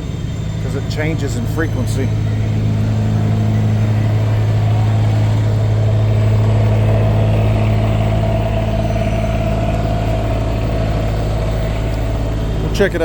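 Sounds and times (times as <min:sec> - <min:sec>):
diesel engine running: 0:00.0 - 0:13.0
whistling squeal: 0:00.0 - 0:13.0.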